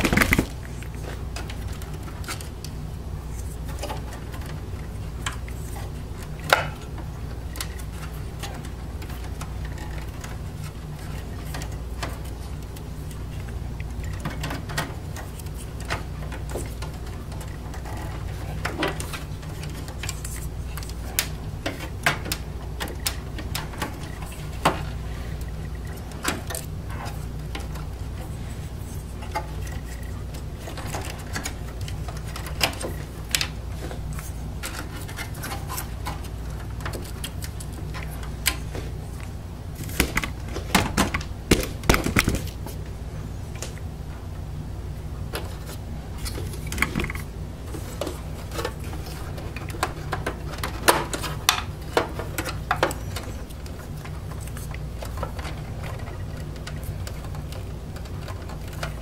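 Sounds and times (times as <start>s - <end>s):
steady low hum: 0.0s - 59.0s
clicks and taps handling computer parts: 3.4s - 42.8s, 45.3s - 59.0s.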